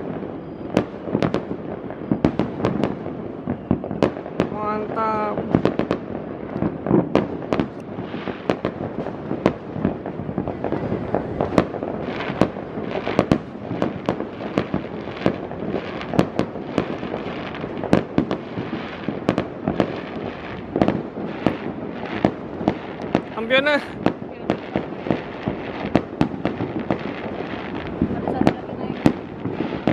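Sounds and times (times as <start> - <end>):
distant fireworks bursts: 0.0 - 29.9
fireworks bangs: 0.0 - 29.9.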